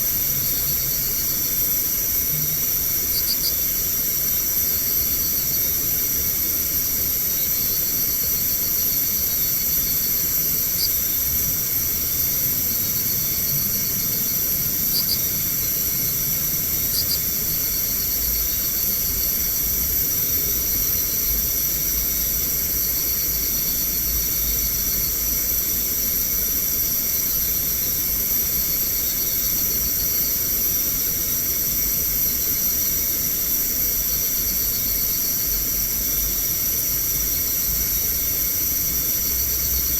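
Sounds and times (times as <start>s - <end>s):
night insects ringing: 0.0s - 39.9s.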